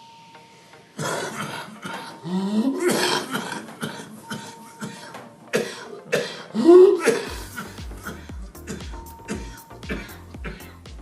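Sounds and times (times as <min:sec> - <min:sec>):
person coughing: 0:01.0 - 0:11.0.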